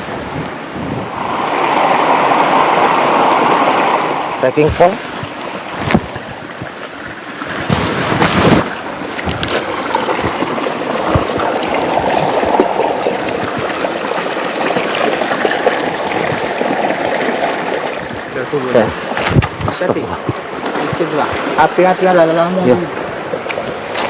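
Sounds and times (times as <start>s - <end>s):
river water splashing over rocks: 0.0s - 24.0s.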